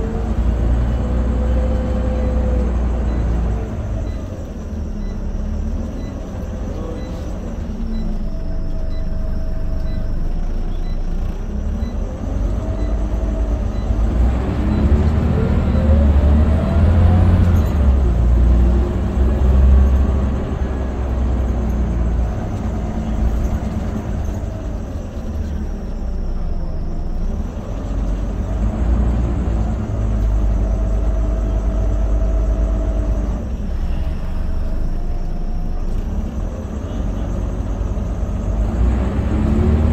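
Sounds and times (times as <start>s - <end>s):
bus diesel engine under load: 0.0s - 39.9s
road rumble: 0.0s - 39.9s.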